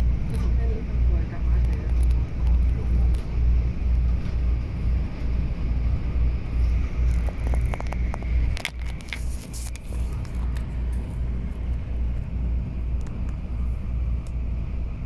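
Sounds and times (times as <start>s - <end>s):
train rumbling at speed: 0.0s - 15.0s.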